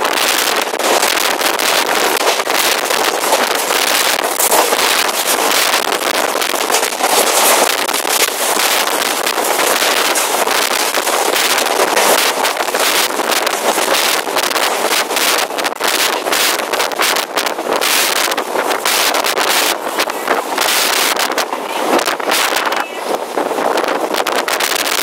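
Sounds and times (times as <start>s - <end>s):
freight train rumble and clatter: 0.0s - 25.0s
wind on microphone: 0.0s - 25.0s.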